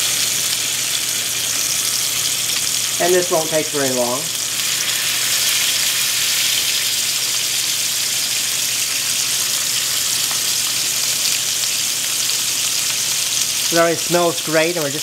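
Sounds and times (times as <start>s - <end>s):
meat sizzling in a skillet: 0.0s - 15.0s.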